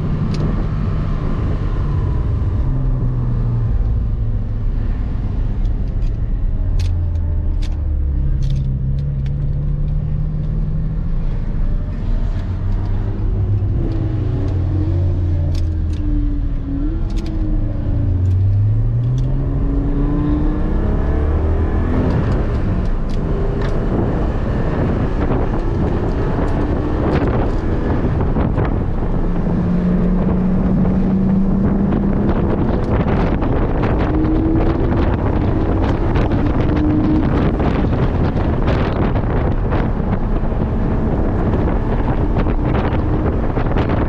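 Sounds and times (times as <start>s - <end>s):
car engine pulling hard: 0.0s - 44.0s
wind and road noise: 0.0s - 44.0s.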